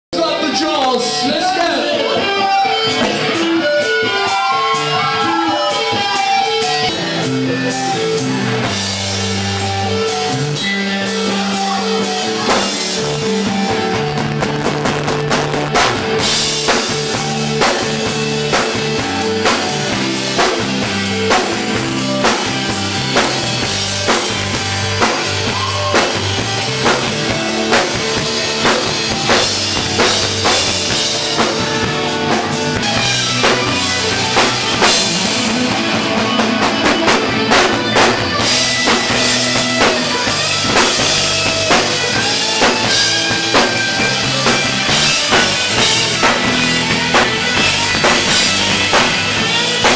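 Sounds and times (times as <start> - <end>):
drum kit beat: 0.2 - 49.9
electric guitar: 0.2 - 49.9.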